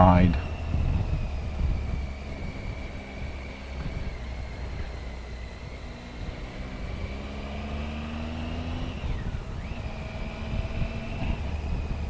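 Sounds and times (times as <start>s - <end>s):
motorcycle engine pulling: 0.0s - 12.0s
wind and road rumble: 0.0s - 12.0s.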